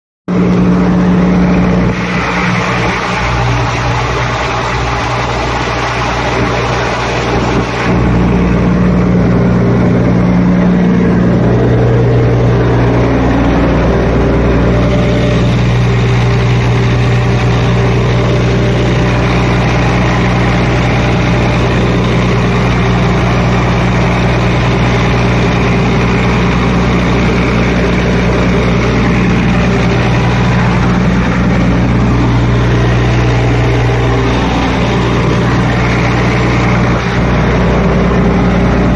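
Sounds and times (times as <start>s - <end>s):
air compressor engine drone: 0.3s - 38.9s.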